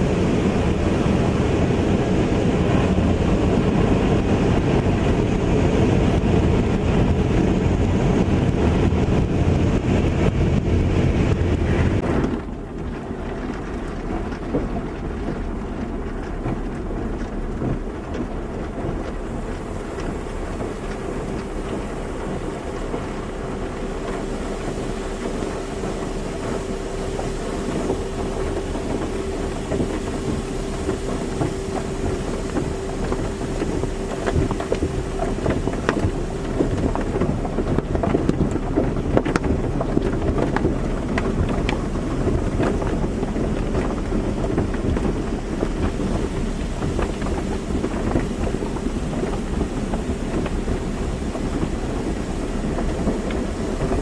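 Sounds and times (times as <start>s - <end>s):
low whine: 0.0s - 54.0s
steady machine hum: 0.0s - 54.0s
water spraying on a car: 0.0s - 54.0s.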